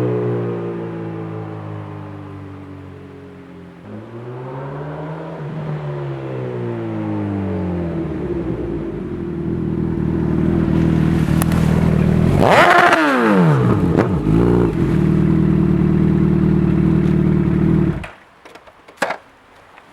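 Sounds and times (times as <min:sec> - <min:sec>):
motorcycle engine idling and revving: 0:00.0 - 0:18.2.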